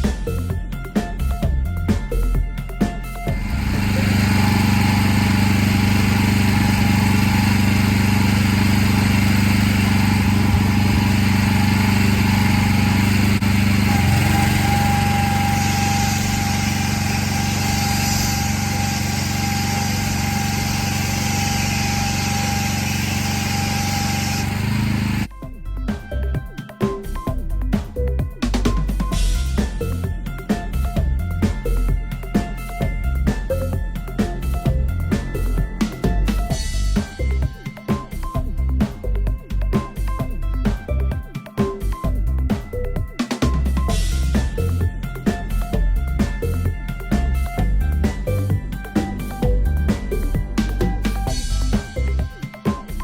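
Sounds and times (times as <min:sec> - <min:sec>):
pressure washer engine running: 0:03.1 - 0:25.3, 0:28.5 - 0:53.0.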